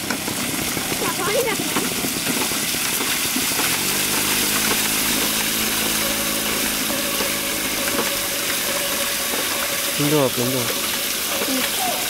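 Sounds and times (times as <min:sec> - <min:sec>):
engine-like hum: 0:00.0 - 0:11.8
bicycle tyres splashing through mud: 0:00.0 - 0:12.0.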